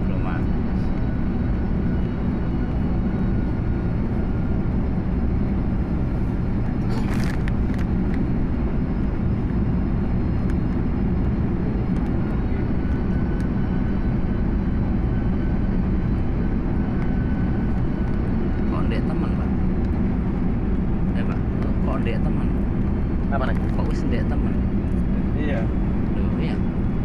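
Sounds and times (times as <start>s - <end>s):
airliner cabin engine noise: 0.0s - 27.0s.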